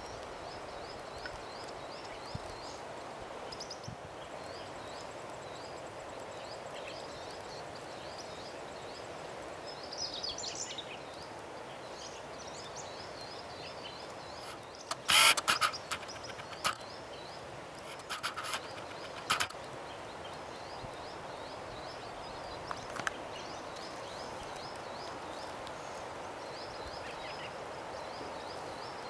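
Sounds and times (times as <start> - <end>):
small birds chirping: 0.0 - 29.0
steady hiss: 0.0 - 29.0.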